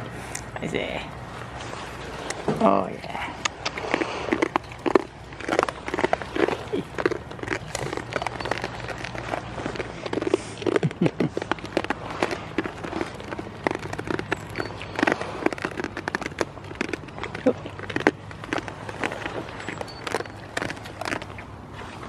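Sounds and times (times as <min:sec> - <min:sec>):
goats crunching and chewing: 0:00.0 - 0:22.0.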